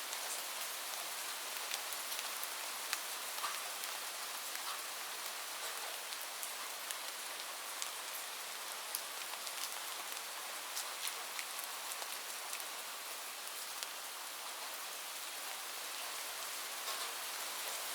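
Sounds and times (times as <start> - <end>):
heavy rain on a roof: 0.0 - 17.9.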